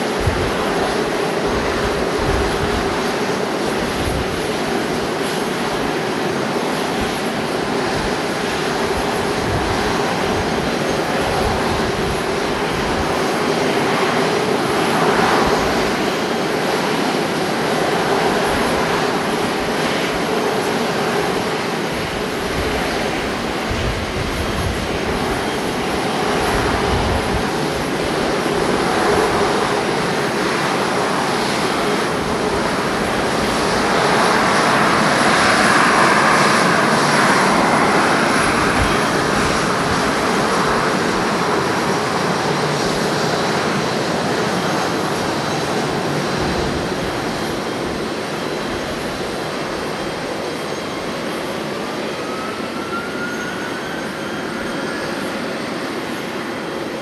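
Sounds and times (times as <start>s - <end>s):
jet engines at taxi power: 0.0s - 57.0s.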